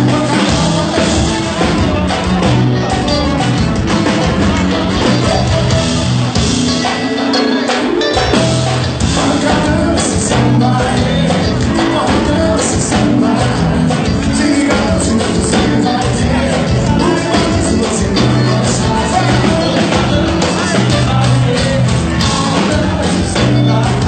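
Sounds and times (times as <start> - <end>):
live band music: 0.0 - 24.0
man singing: 0.0 - 24.0.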